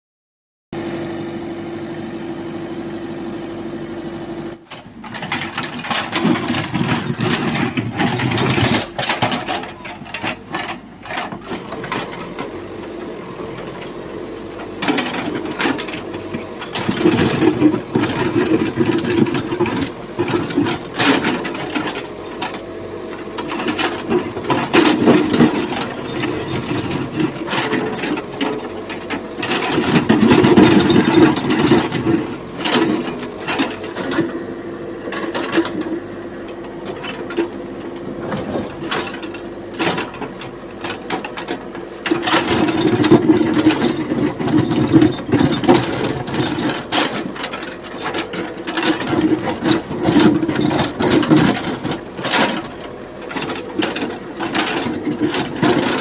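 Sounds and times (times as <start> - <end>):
diesel engine under load: 0.8 - 56.0
bucket scraping and clanking: 4.8 - 56.0.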